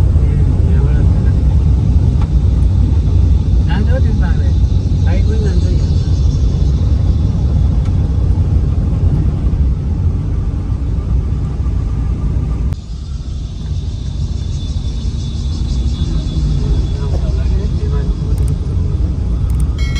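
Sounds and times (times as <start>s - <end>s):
vehicle rumbling on rough road: 0.0s - 19.9s.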